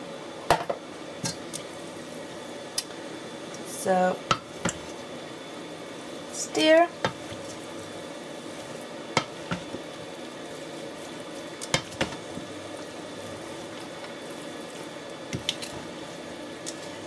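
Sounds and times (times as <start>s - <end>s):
stir-fry sizzling in a pan: 0.0s - 17.0s.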